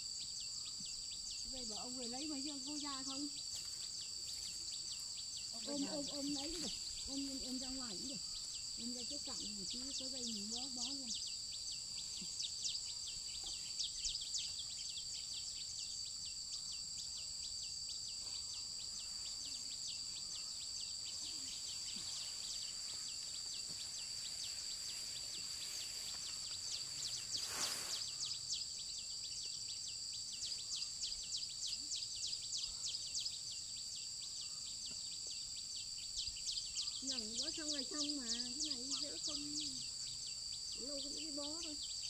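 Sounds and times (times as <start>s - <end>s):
faint outdoor noise: 0.0s - 42.0s
insect chorus droning: 0.0s - 42.0s.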